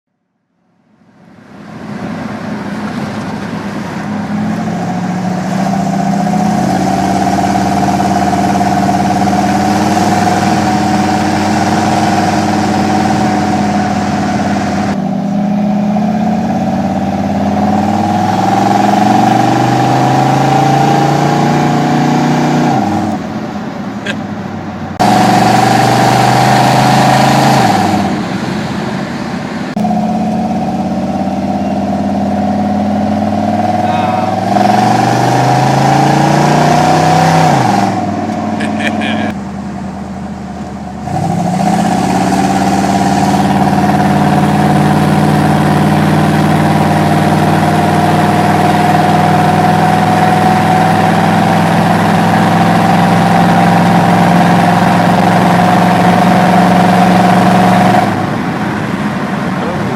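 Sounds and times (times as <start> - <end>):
car engine revving: 1.2 - 59.9.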